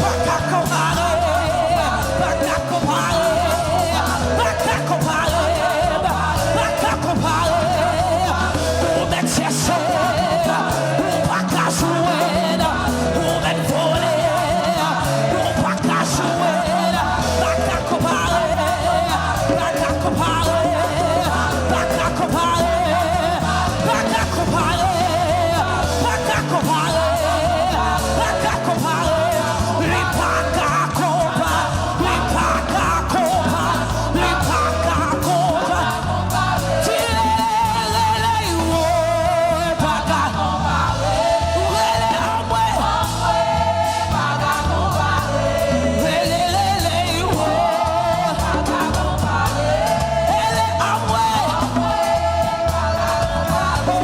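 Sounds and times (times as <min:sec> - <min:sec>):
backing vocal group singing: 0:00.0 - 0:54.0
band with bass and drums: 0:00.0 - 0:54.0
lead singer singing: 0:00.0 - 0:54.0.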